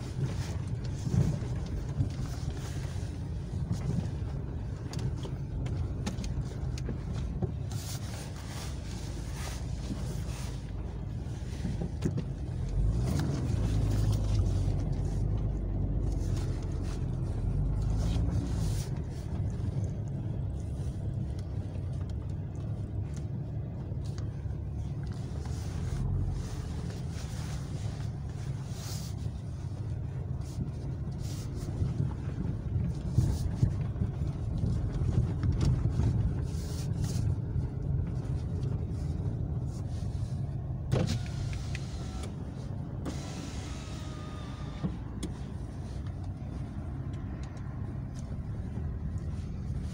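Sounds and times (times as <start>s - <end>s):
car knocks and rattles: 0.0s - 26.0s, 29.2s - 49.9s
car engine and tyre drone: 0.0s - 49.9s.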